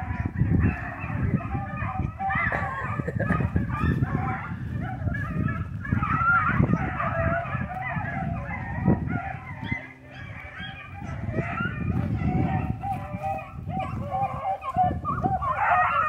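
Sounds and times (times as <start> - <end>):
puppies baying and yelping: 0.0 - 16.0.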